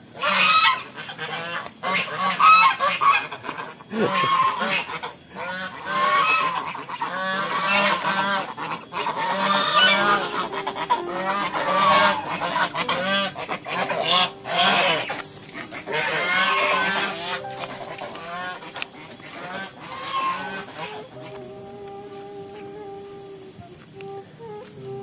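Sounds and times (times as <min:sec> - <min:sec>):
ducks quacking: 0:00.2 - 0:21.5.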